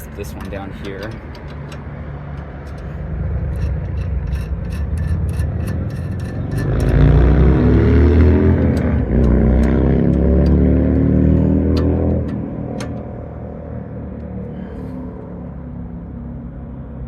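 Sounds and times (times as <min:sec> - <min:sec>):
passing vehicle engine: 0:00.0 - 0:17.0
steady low rumble: 0:00.0 - 0:17.0.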